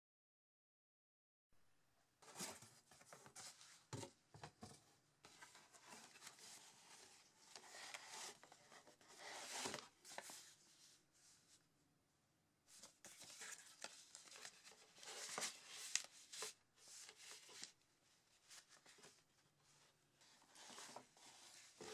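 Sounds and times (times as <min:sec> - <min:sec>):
paper and cardboard rustling: 0:02.2 - 0:11.4, 0:12.7 - 0:17.8, 0:18.4 - 0:21.9.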